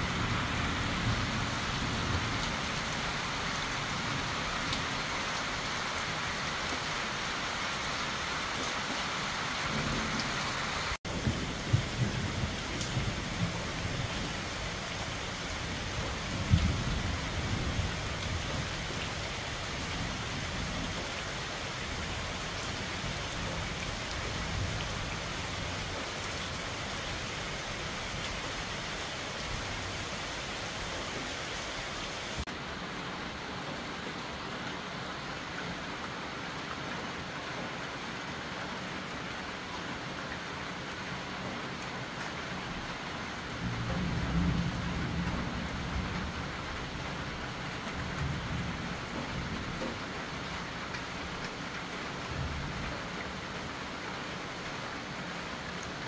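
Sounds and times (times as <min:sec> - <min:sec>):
heavy rain on foliage: 0:00.0 - 0:56.0
rain on a windowpane: 0:00.0 - 0:56.0.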